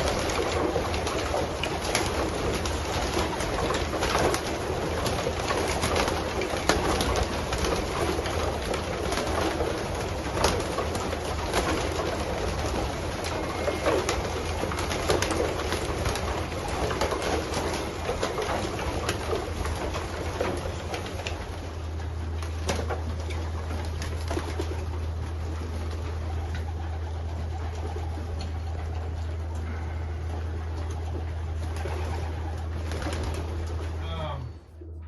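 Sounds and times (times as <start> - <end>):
sharp clicks and wing flutters: 0.0 - 29.8, 30.8 - 34.0
pigeons cooing: 0.0 - 35.0.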